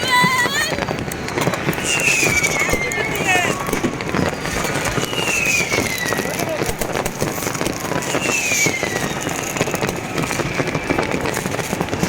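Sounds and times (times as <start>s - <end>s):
falling firework whistle: 0.0s - 12.0s
fireworks crackling and banging: 0.0s - 12.0s.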